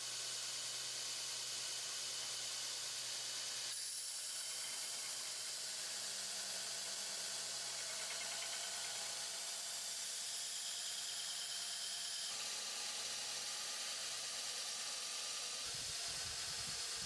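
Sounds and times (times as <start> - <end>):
machine hiss and motor hum: 0.0 - 17.0.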